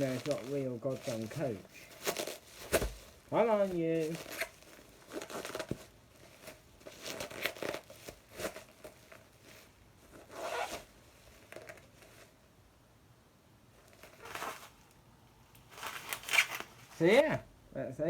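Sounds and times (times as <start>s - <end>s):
packaging tearing and rustling: 0.0s - 12.3s, 13.8s - 15.0s, 15.6s - 17.3s.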